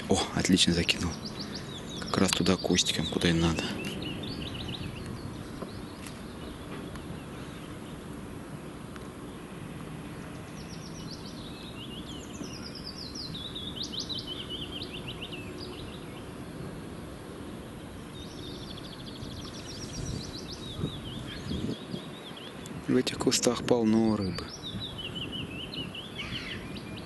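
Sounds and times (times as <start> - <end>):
songbirds trilling: 0.0 - 27.0.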